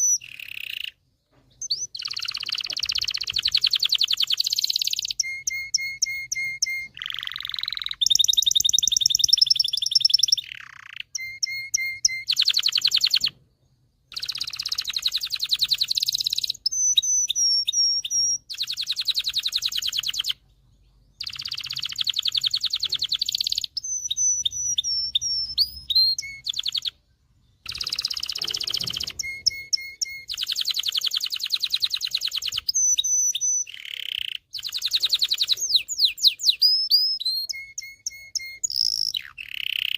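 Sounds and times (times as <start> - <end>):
canary singing trills and whistles: 0.0 - 39.9.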